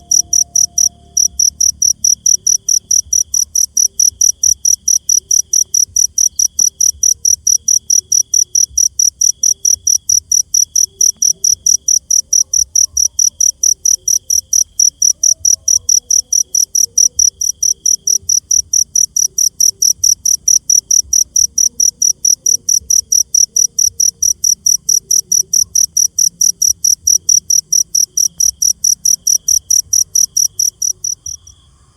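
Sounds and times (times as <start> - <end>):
cricket chirping: 0.0 - 31.9
faint insect trill: 0.0 - 31.9.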